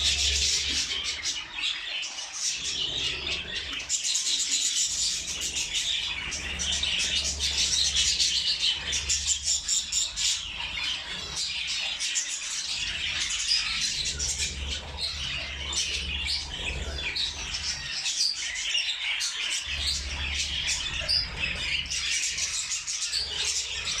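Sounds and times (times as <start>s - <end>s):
small birds chattering and chirping: 0.0s - 24.0s.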